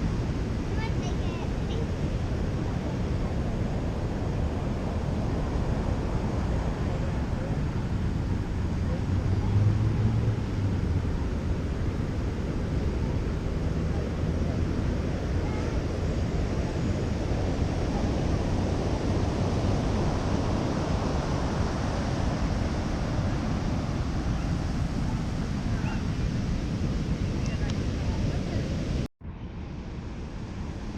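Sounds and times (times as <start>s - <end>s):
ocean surf breaking: 0.0s - 29.1s
wind buffeting microphone: 0.0s - 30.9s.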